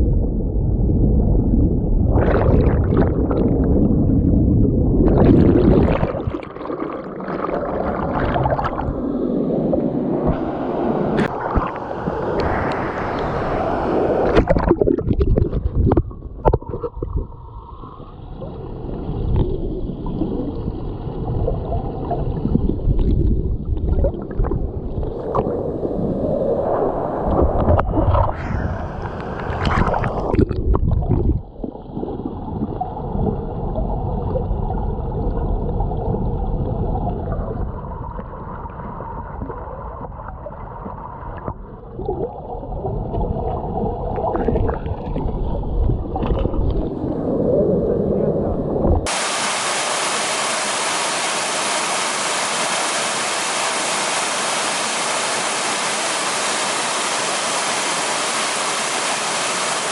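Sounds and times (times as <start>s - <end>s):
muffled gurgling stream water: 0.0s - 59.9s.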